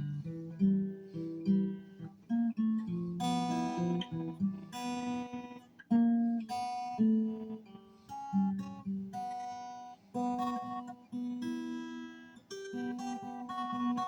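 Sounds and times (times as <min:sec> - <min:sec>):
acoustic guitar: 0:00.0 - 0:14.0.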